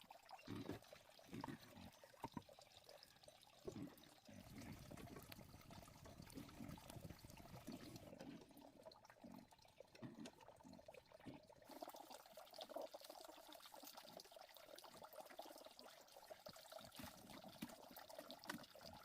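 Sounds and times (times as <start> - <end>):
faint water sounds: 0.0 - 19.0.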